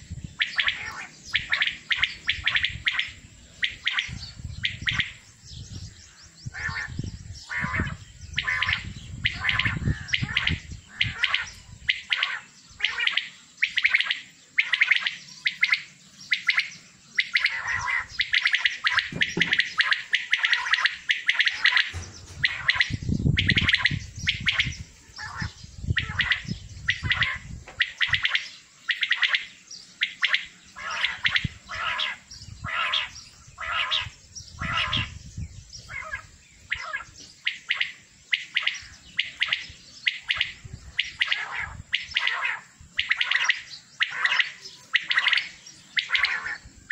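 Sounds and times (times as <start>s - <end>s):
quails calling: 0.0s - 46.9s.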